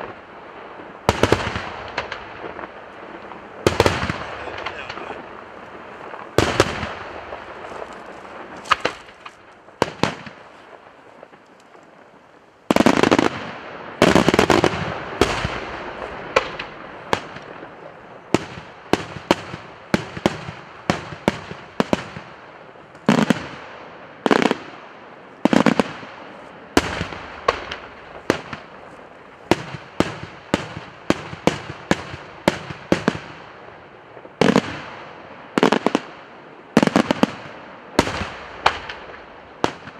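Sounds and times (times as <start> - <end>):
firework shells bursting: 0.0 - 23.6, 25.4 - 33.1, 38.0 - 39.9.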